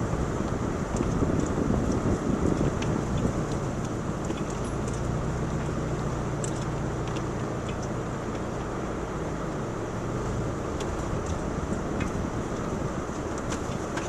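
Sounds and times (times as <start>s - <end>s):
car engine and tyre drone: 0.0s - 14.0s
small clicks and rattles: 0.4s - 8.8s, 10.7s - 14.0s.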